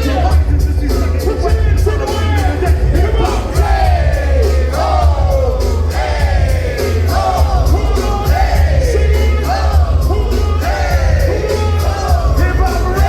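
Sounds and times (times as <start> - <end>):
loud hip-hop music: 0.0 - 13.0
crowd yelling along: 2.0 - 13.0.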